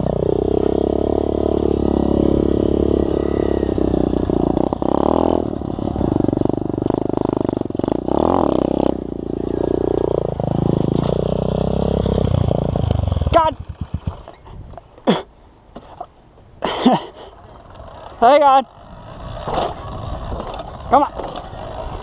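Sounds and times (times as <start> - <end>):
motorbike engine revving: 0.0 - 14.4, 16.9 - 22.0.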